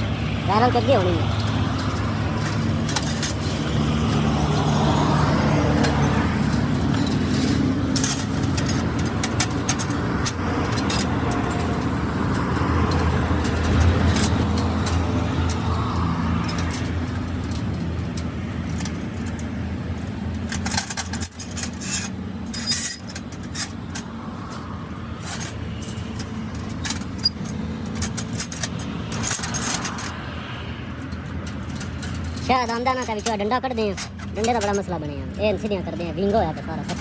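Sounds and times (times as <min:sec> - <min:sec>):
light metallic clinks and scrapes: 0:00.0 - 0:37.0
low engine or traffic hum: 0:00.0 - 0:37.0.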